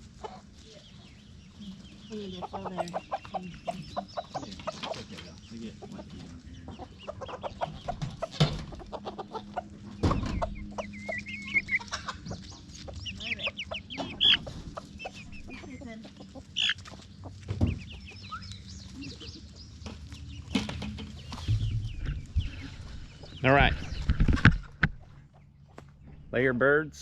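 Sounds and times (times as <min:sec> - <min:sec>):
hens clucking and squawking: 0:00.0 - 0:26.2.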